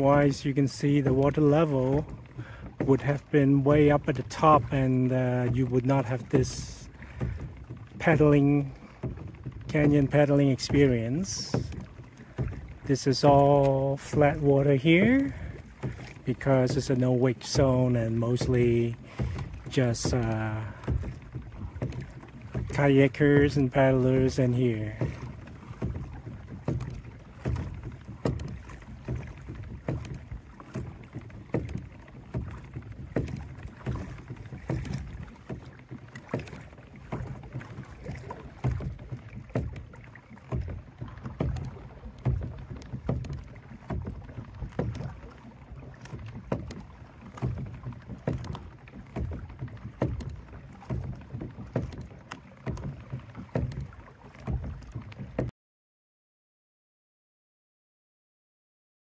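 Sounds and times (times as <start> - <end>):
water lapping against hull: 0.0 - 55.5
small irregular clicks and knocks: 6.5 - 55.5.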